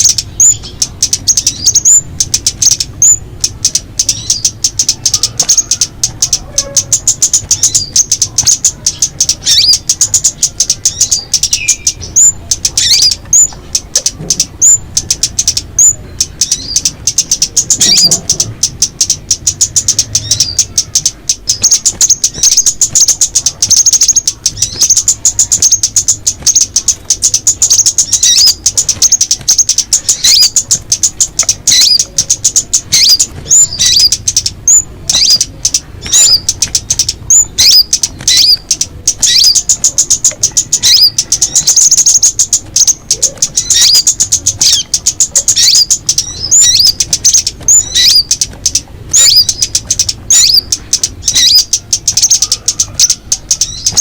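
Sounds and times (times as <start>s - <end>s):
falling bird notes: 0.0s - 54.0s
songbirds chattering: 0.0s - 54.0s.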